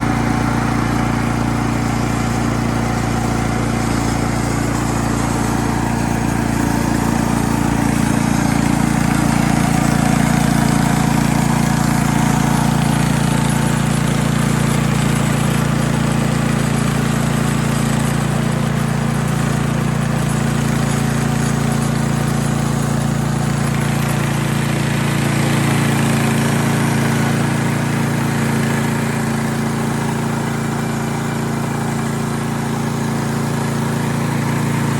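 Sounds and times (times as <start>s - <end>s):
small gasoline engine running: 0.0s - 34.9s.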